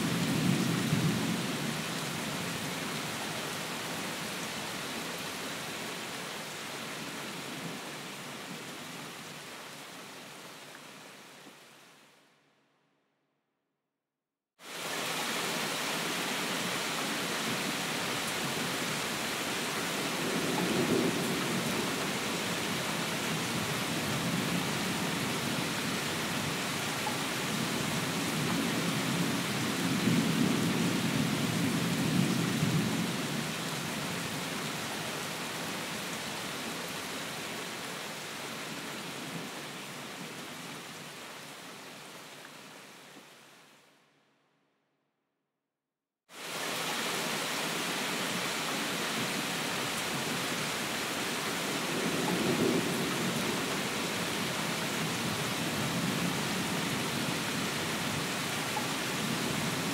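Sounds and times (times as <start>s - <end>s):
steady rain: 0.0s - 12.4s, 14.6s - 44.1s, 46.3s - 59.9s.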